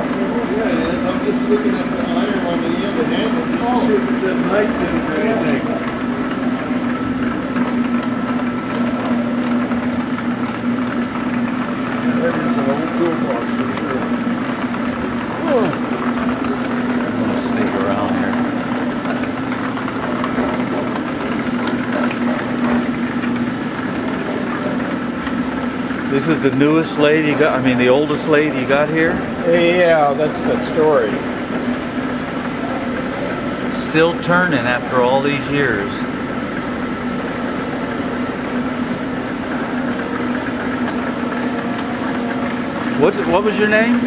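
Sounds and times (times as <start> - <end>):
lathe running with mechanical whir: 0.0 - 44.0.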